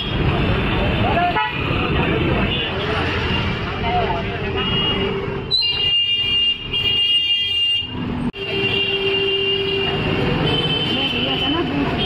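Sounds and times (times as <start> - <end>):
street traffic: 0.0 - 12.0
vehicle horns honking: 1.0 - 3.6, 4.4 - 12.0.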